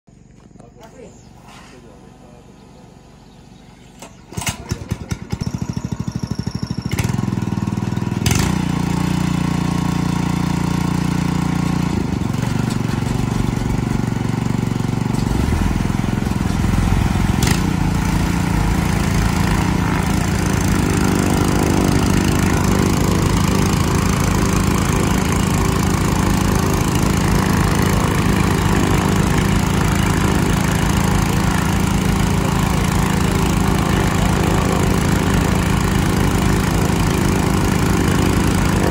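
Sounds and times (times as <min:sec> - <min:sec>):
small gasoline engine running: 0:00.2 - 0:38.9.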